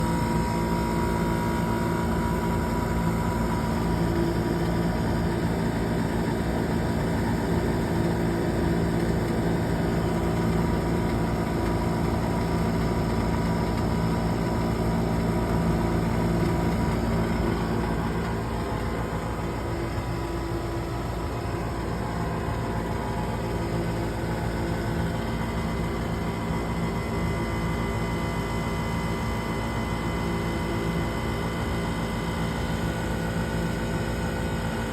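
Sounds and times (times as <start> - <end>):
furnace humming: 0.0 - 34.1.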